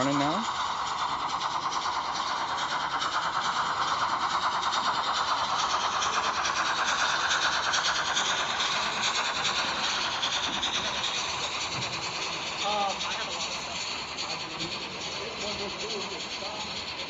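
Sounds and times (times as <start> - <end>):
model train wheels rattling on rail: 0.0 - 17.0.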